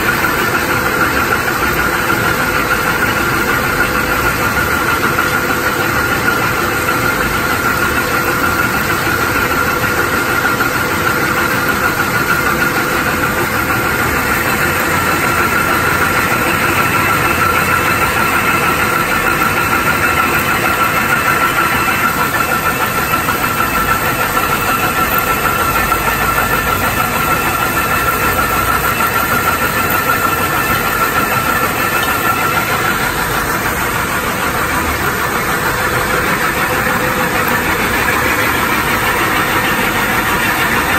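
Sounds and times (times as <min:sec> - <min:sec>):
high machine whine: 0:00.0 - 0:40.9.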